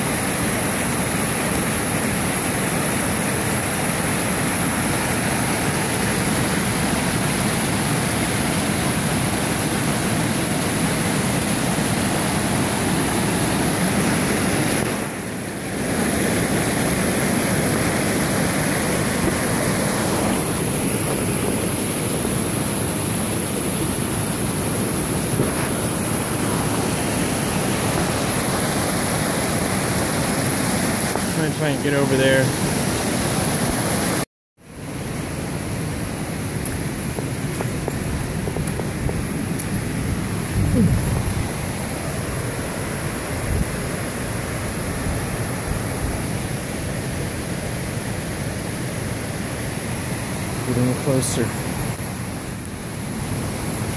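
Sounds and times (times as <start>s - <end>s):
waterfall rushing: 0.0s - 34.2s, 35.4s - 53.9s.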